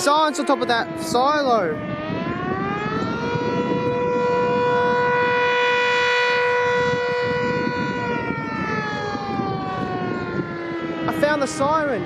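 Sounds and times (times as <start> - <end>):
air-raid siren: 0.0 - 12.0.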